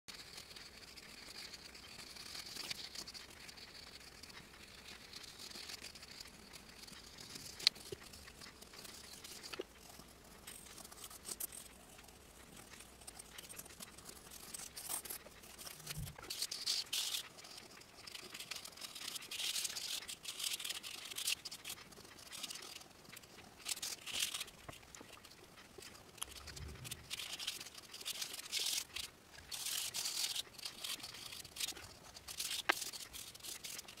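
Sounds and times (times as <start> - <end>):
pencil scratching on paper: 0.1 - 34.0.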